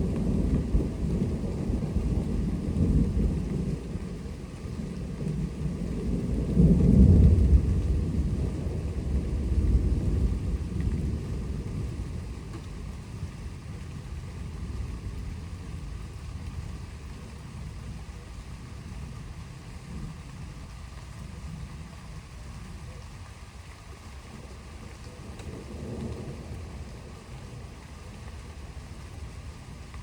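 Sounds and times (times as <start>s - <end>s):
thunder rumbling: 0.0s - 23.0s, 24.3s - 30.0s
faint rain hiss: 0.0s - 30.0s.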